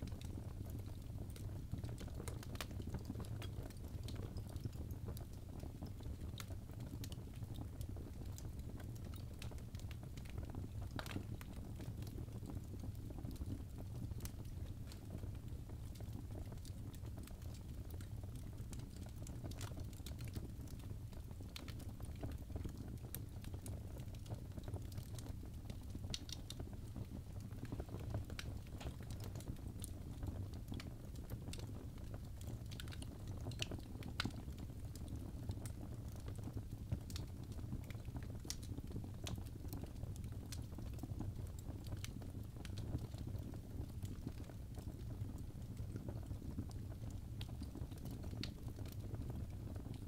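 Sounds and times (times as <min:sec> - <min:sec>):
fire burning and crackling: 0:00.0 - 0:50.0.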